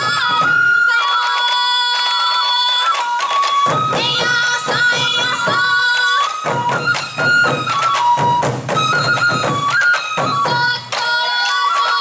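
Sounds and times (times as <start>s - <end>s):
bamboo flute melody: 0.0s - 12.0s
taiko drums in unison: 0.0s - 12.0s.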